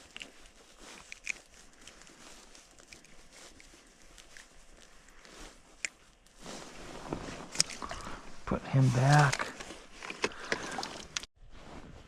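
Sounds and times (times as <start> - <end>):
soft rustling: 0.0 - 12.0.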